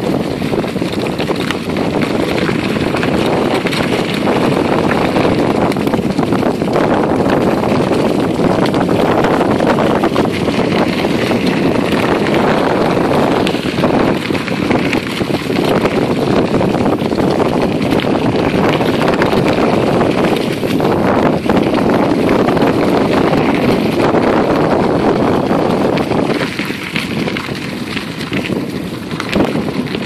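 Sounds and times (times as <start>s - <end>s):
bicycle tyres crackling over leaves: 0.0s - 30.0s
wind on microphone: 0.0s - 30.0s.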